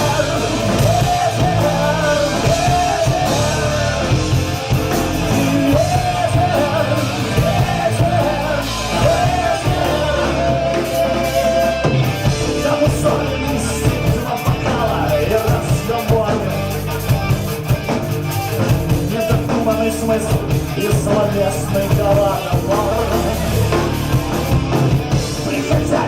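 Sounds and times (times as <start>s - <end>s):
rock band playing live: 0.0s - 26.0s.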